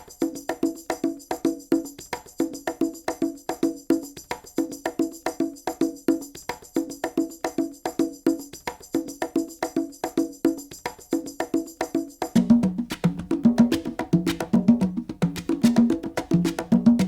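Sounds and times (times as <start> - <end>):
background music with percussion: 0.0 - 17.0.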